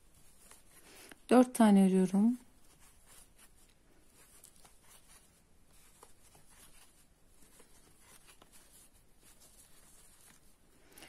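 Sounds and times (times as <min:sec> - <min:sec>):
crochet hook scratching yarn: 0:00.0 - 0:10.7.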